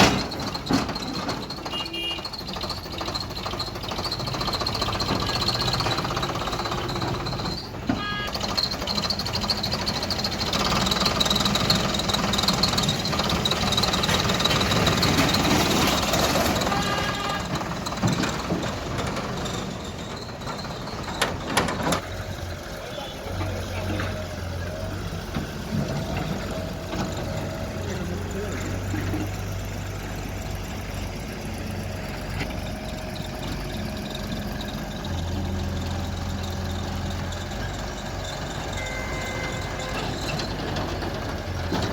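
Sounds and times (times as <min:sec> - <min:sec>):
diesel engine under load: 0:00.0 - 0:41.9.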